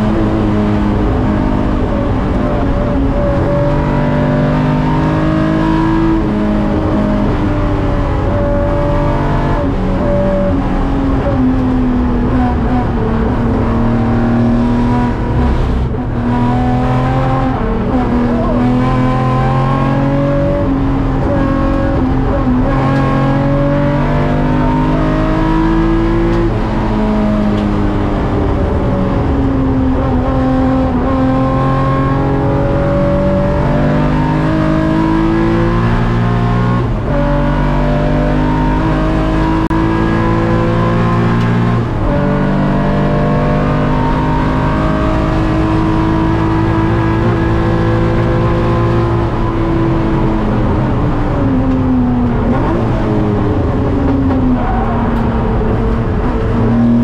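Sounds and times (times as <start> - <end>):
race car engine under load: 0.0 - 57.0.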